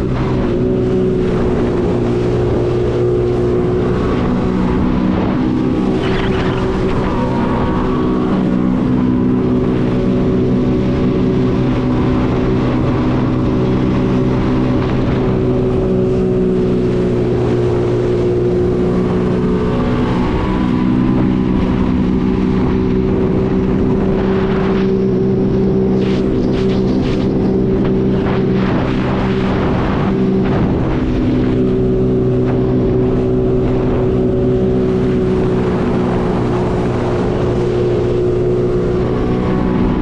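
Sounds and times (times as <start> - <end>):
jet ski engine running: 0.0 - 40.0
water noise: 0.0 - 40.0
wind noise: 0.0 - 40.0.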